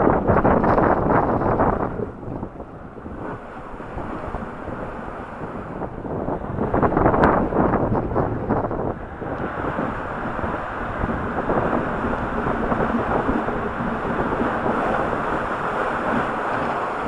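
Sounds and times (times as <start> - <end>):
rushing water: 0.0 - 17.0
wind over microphone: 0.0 - 17.0.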